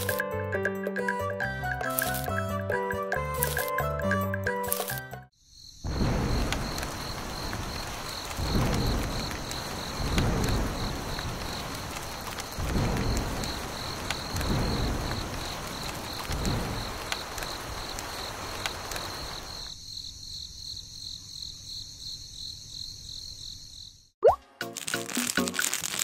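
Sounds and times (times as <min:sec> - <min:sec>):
insects chirping: 0:04.7 - 0:26.0.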